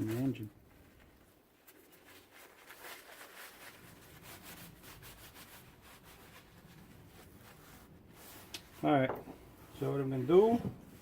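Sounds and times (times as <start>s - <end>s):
hands rubbing and scuffing parts: 0.0s - 11.0s.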